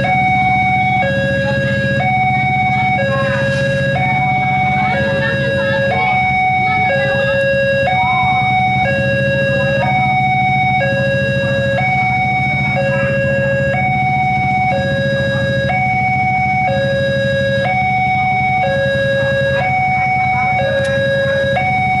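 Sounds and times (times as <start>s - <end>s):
level crossing two-tone alarm: 0.0s - 22.0s.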